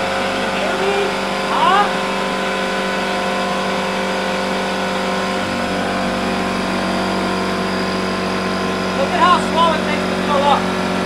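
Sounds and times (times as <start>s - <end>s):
air compressor running: 0.0s - 11.0s.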